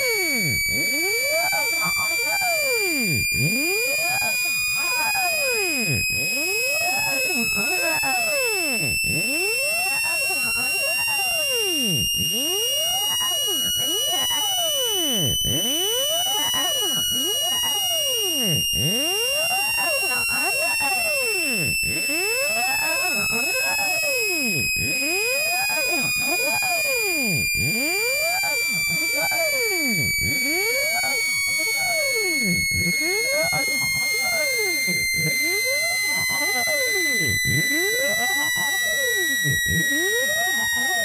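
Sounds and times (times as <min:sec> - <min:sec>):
high steady electronic tone: 0:00.0 - 0:41.0.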